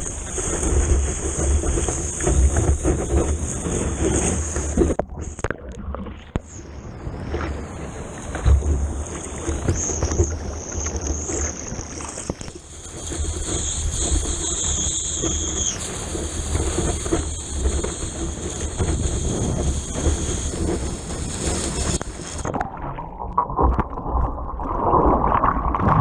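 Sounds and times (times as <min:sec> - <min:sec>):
ocean water splashing: 0:00.0 - 0:26.0.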